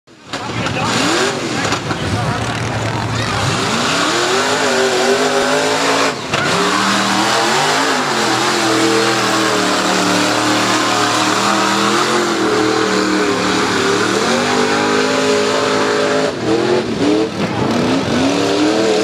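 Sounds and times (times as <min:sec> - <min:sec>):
engine revving at high revs: 0:00.6 - 0:19.0.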